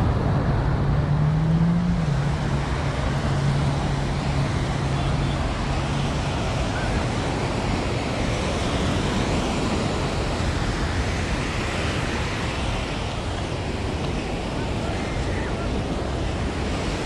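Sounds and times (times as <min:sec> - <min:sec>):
ocean surf washing ashore: 0:00.0 - 0:17.0.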